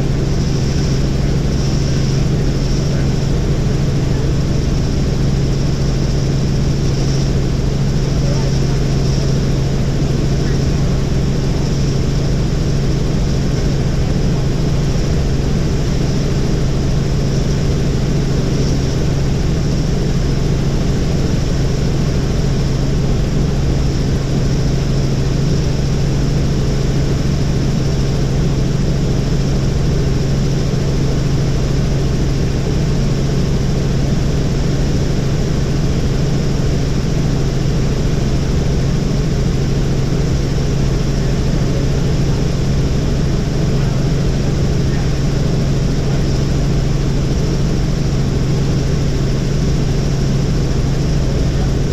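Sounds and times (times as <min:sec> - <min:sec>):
helicopter rotor and engine drone: 0:00.0 - 0:51.9.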